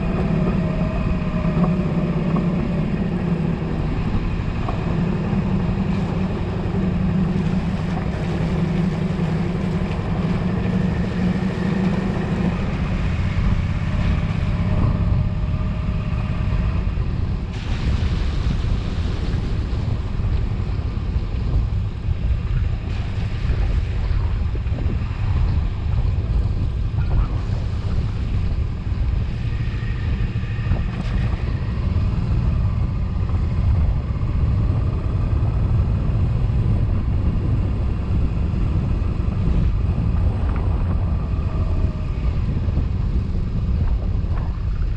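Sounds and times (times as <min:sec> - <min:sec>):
motorcycle engine cruising: 0:00.0 - 0:44.9
wind rushing over microphone: 0:00.0 - 0:44.9.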